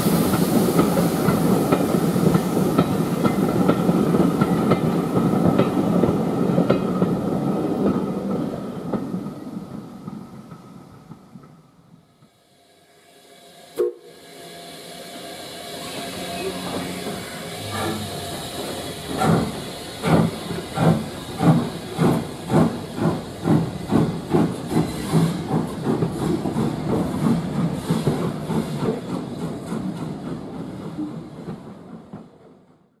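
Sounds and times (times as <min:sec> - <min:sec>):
steam hiss: 0:00.0 - 0:10.9, 0:12.3 - 0:31.3
steam locomotive exhaust beats: 0:00.0 - 0:32.7.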